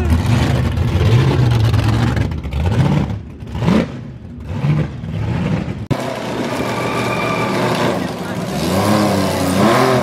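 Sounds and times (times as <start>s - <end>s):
car engines idling and revving: 0.0s - 10.0s.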